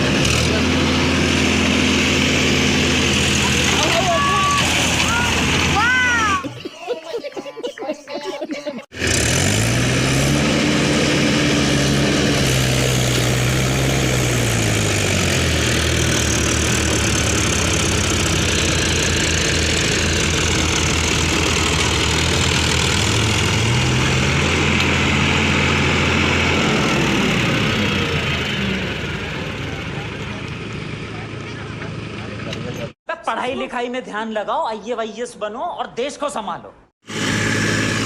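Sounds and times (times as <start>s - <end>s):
tractor engine revving: 0.0s - 6.7s, 8.8s - 33.0s, 37.0s - 38.0s.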